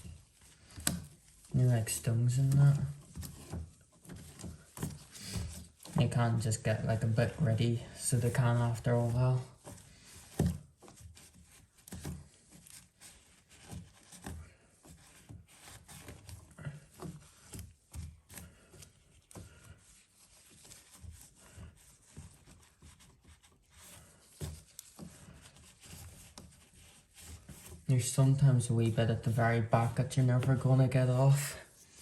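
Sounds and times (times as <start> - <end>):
cloth wiping and rubbing: 0.0 - 32.0
light knocks and bumps: 0.0 - 32.0.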